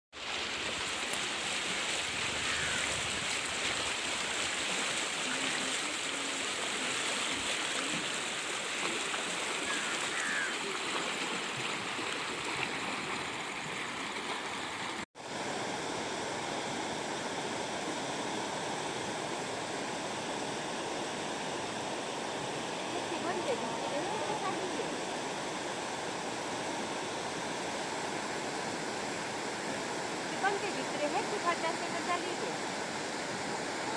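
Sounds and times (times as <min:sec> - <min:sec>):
river water rushing: 0:00.2 - 0:33.9.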